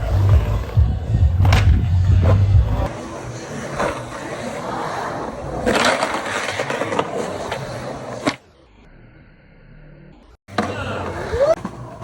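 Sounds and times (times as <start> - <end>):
skateboard wheels rolling: 0.0 - 8.7, 9.8 - 12.0.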